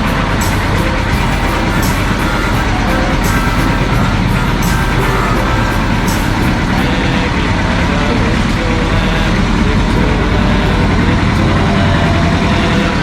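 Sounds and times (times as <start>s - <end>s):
road rumble: 0.0s - 13.0s
vehicle engine: 0.0s - 13.0s.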